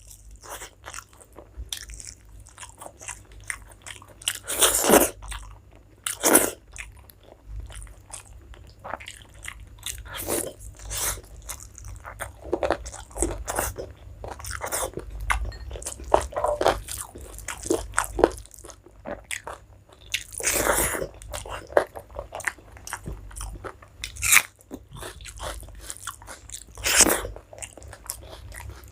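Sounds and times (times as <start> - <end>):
chewing and mouth smacks: 0.1 - 28.9.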